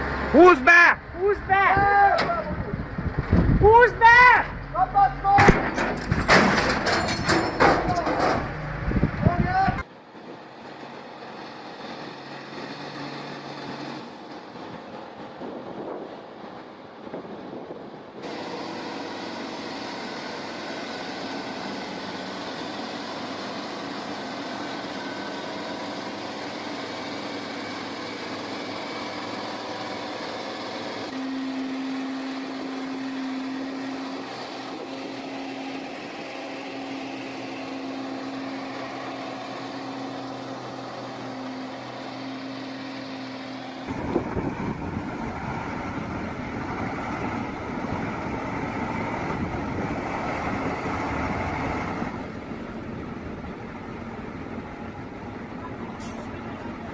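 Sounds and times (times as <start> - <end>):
tractor diesel engines running: 0.0 - 56.9.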